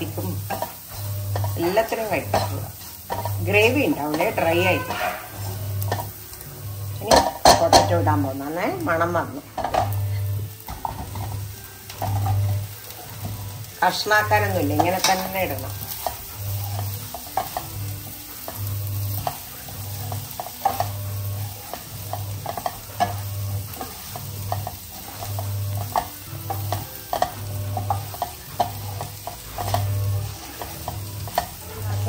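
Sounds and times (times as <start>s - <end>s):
spatula scraping potatoes in pan: 0.0s - 8.0s, 9.5s - 32.0s
oil sizzling: 0.0s - 32.0s.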